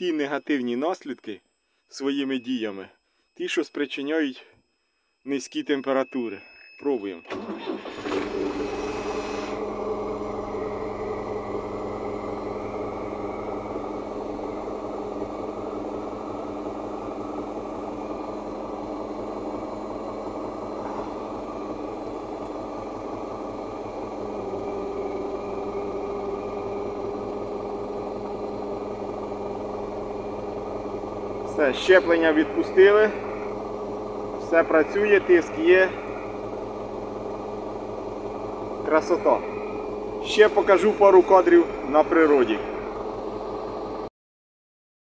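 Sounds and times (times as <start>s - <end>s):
tractor diesel idling: 7.3s - 44.0s.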